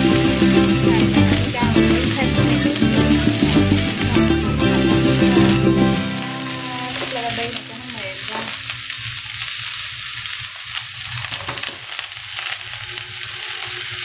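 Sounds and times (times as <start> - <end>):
crackles: 0.0 - 14.0
vegetables sizzling in a pot: 0.0 - 14.0.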